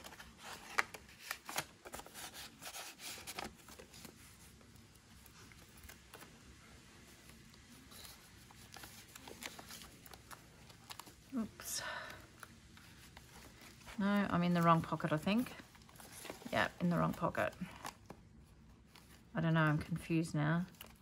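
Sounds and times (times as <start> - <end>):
paper cards rustling and sliding: 0.0 - 11.4, 12.1 - 19.3.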